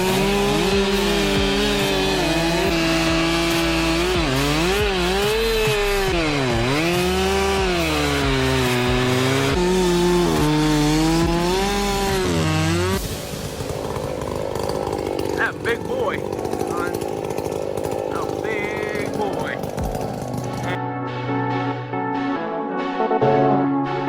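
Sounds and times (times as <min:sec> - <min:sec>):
chainsaw cutting wood: 0:00.0 - 0:20.8.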